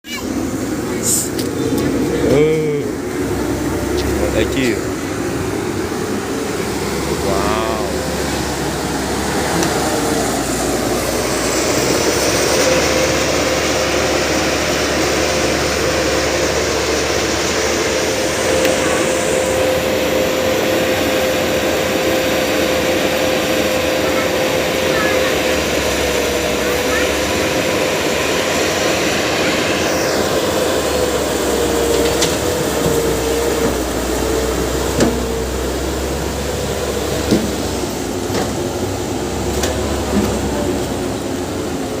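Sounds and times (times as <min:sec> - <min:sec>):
excavator engine running: 0:00.0 - 0:42.0
steady whine: 0:00.0 - 0:42.0.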